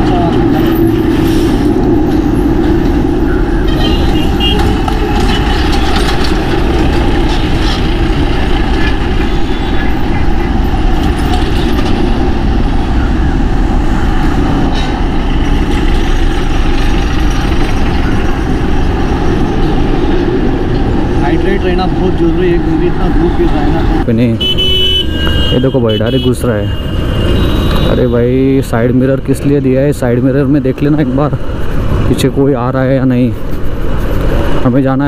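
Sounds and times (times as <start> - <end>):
wind rushing over microphone: 0.0 - 24.6, 26.7 - 35.0
surrounding traffic: 0.0 - 35.0.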